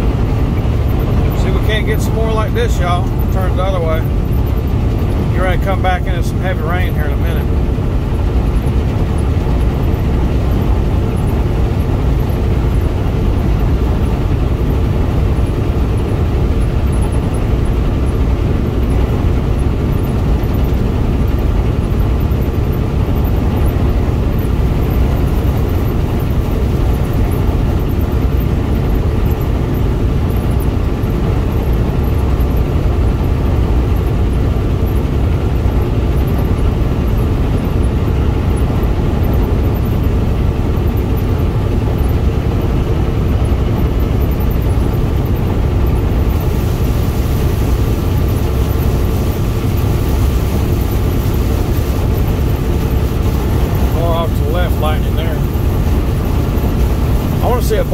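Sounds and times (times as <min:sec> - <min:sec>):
car cabin road rumble: 0:00.0 - 0:57.9.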